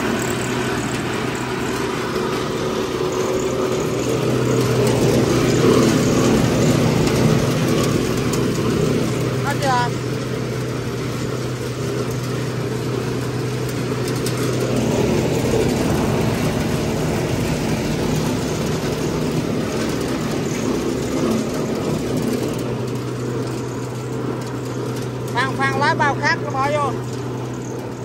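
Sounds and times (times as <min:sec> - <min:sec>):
threshing machine motor hum: 0:00.0 - 0:28.0.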